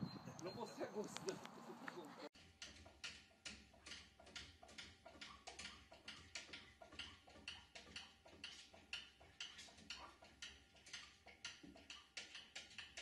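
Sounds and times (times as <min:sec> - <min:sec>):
faint steady ticking: 0:00.4 - 0:13.0.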